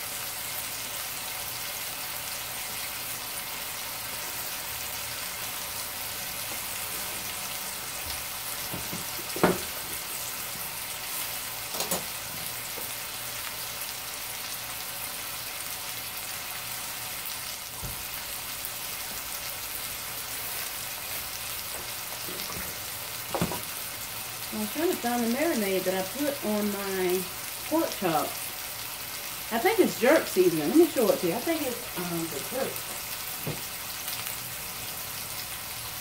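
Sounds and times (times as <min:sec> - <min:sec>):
meat sizzling in a skillet: 0:00.0 - 0:36.0.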